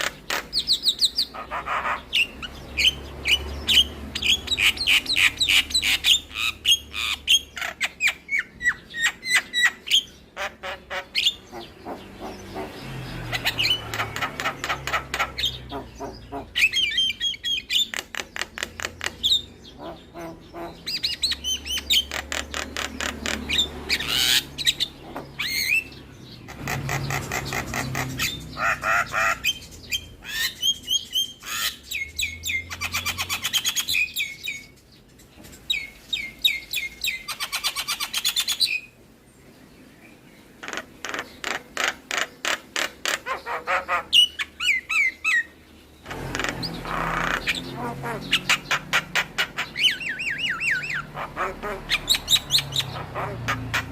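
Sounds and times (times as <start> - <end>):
bird singing varied song: 0.0 - 53.9.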